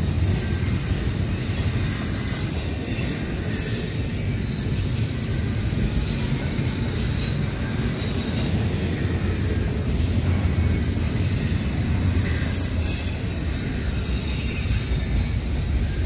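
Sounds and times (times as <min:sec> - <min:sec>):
freight train wheels rumbling on rails: 0:00.0 - 0:16.0
high metallic hiss: 0:00.0 - 0:16.0.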